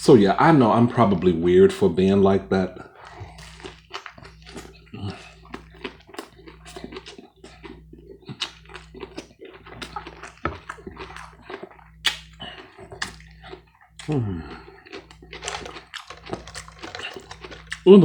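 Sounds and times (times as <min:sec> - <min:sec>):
low steady hum: 0:00.0 - 0:18.0
chewing with wet mouth clicks: 0:02.8 - 0:18.0.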